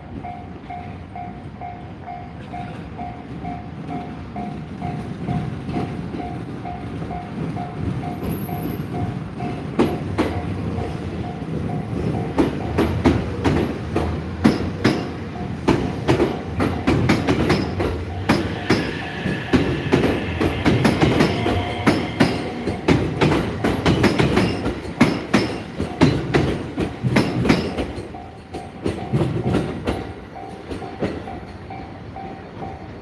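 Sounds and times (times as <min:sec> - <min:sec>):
train rumble: 0:00.0 - 0:33.0
train wheels clattering: 0:00.0 - 0:33.0.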